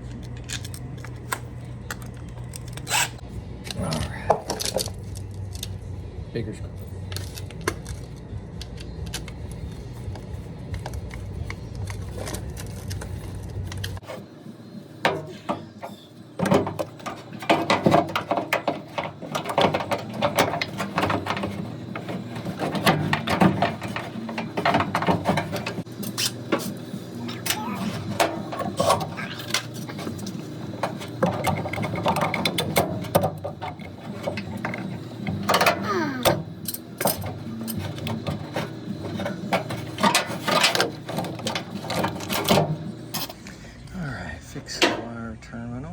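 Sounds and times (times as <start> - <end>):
tools and plastic parts rattling: 0.0 - 5.8, 6.8 - 14.0, 15.1 - 43.4.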